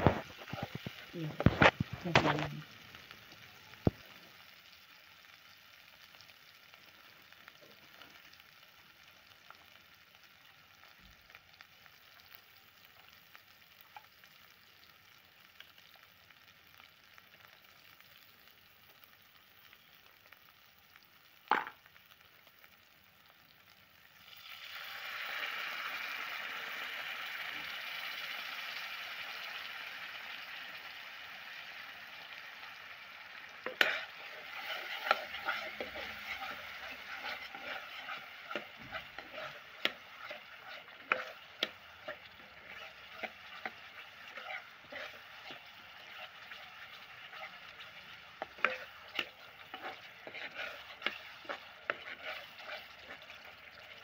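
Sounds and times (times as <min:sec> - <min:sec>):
masala sizzling in oil: 0:00.0 - 0:54.0.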